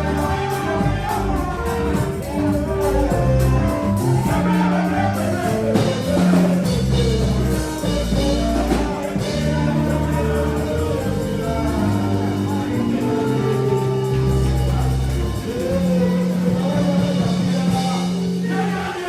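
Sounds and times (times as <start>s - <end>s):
band with drums and keyboard: 0.0s - 19.0s
gospel singing: 0.0s - 19.0s.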